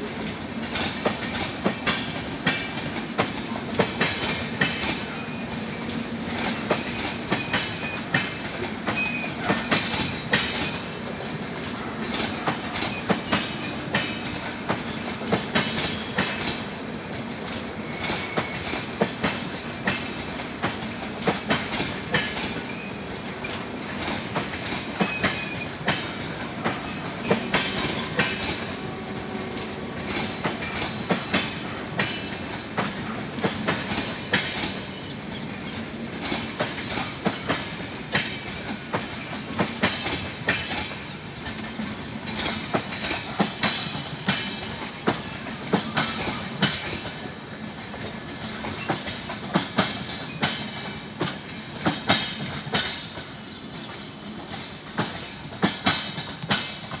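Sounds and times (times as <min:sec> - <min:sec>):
train wheels clattering over rail joints: 0:00.0 - 0:57.0.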